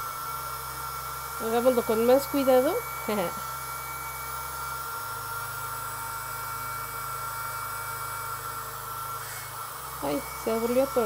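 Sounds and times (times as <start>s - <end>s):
mini vacuum whining: 0.0s - 11.0s.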